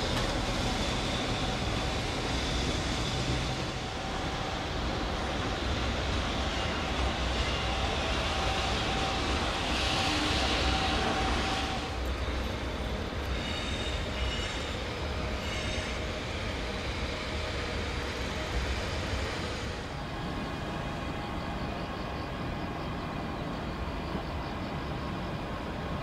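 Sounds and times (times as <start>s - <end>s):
locomotive engines rumbling: 0.0s - 26.0s.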